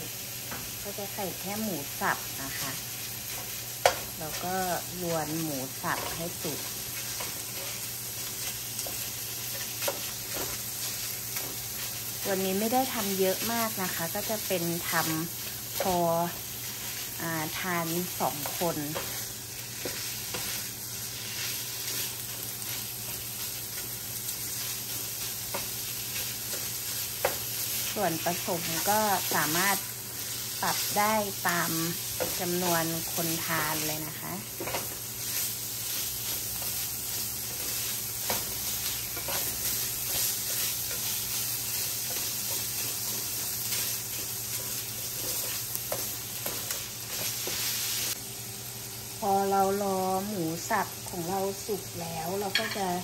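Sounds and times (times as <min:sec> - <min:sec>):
meat sizzling in a frying pan: 0:00.0 - 0:53.0.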